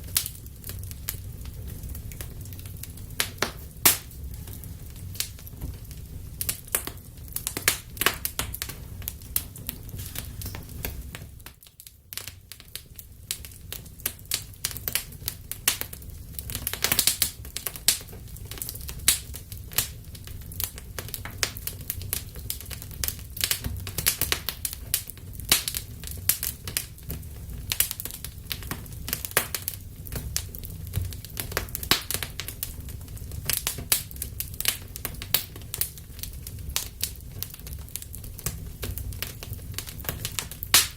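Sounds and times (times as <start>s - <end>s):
fire crackles and pops: 0.0s - 40.9s
flames rumbling: 0.0s - 40.9s.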